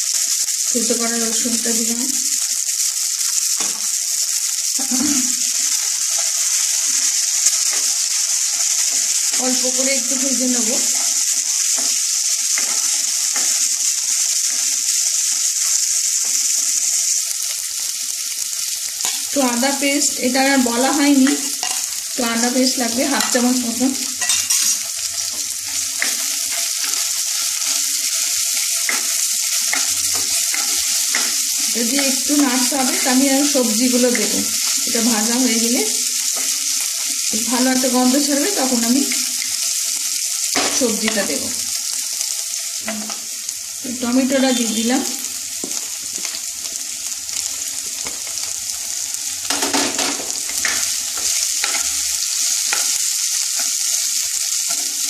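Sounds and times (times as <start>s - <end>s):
onions sizzling in hot oil: 0.0s - 55.0s
spatula stirring pan: 3.3s - 43.4s, 44.1s - 55.0s.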